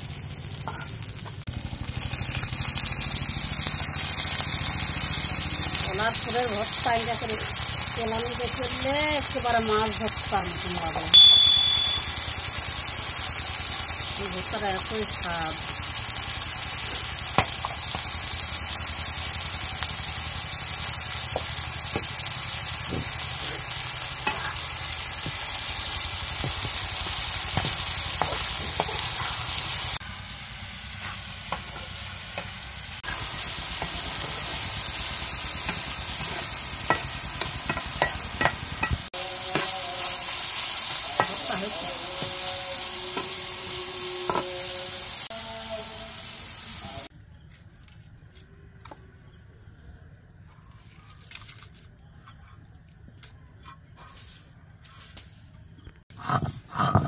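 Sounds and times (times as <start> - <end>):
food sizzling in oil: 0.0 - 47.1.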